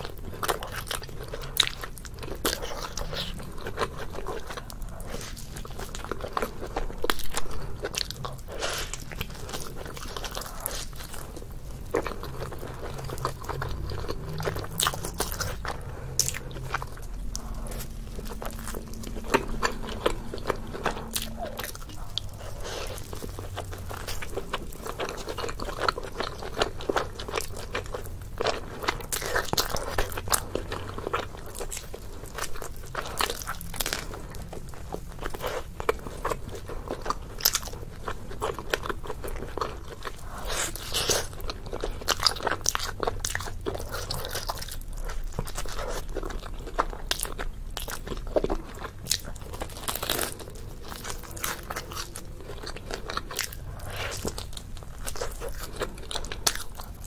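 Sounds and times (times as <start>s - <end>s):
chewing and crust crunching: 0.0s - 57.0s.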